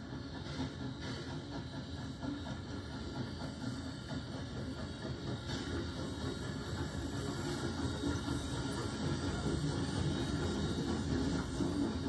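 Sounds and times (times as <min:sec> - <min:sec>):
coaches rolling on rails: 0:00.0 - 0:12.0
steam locomotive hissing: 0:00.0 - 0:12.0.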